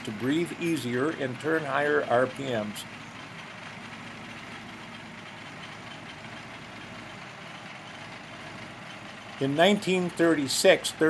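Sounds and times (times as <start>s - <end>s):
racing engine running steadily: 0.0s - 11.0s.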